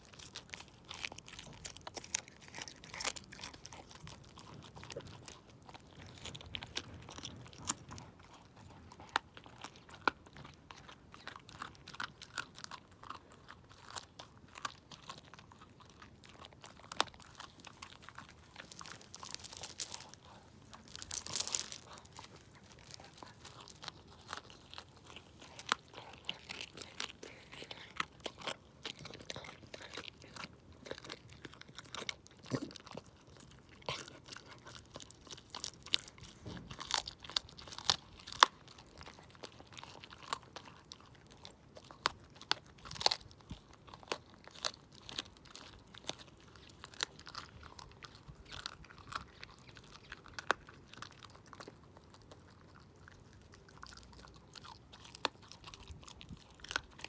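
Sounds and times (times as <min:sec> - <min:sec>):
dog crunching bones: 0:00.0 - 0:57.0
wet chewing: 0:00.0 - 0:57.0.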